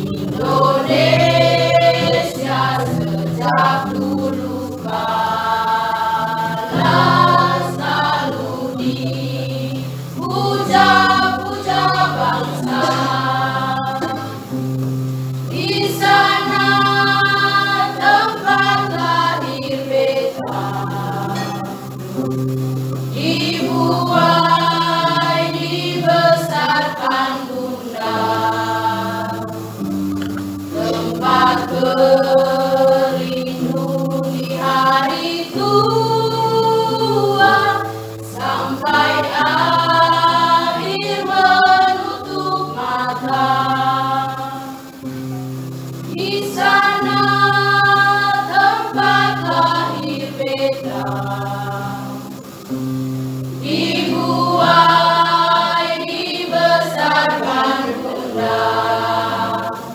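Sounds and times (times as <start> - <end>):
mixed choir singing in harmony: 0.0 - 59.9.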